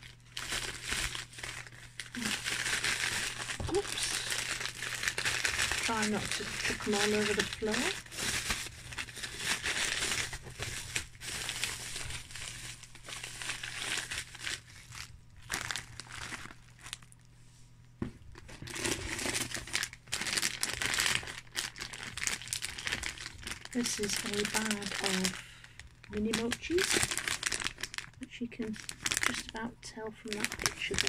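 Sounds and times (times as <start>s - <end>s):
plastic packaging crinkling: 0.0s - 17.3s, 18.1s - 31.0s.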